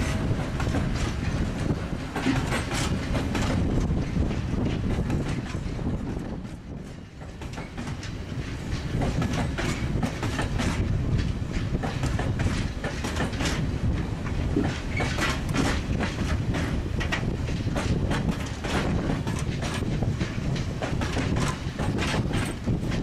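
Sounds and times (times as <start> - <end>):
freight train rumbling past: 0.0 - 23.0
wheels clicking over rail joints: 0.0 - 23.0.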